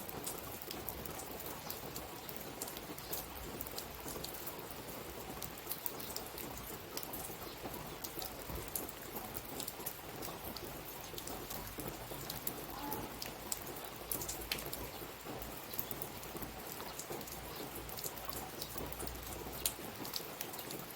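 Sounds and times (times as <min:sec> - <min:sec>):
raindrop clicks: 0:00.0 - 0:20.9
steady rain falling: 0:00.0 - 0:20.9.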